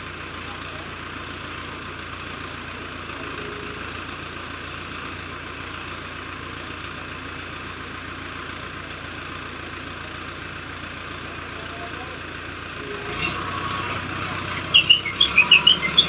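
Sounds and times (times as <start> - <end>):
crane diesel engine running: 0.0 - 16.0.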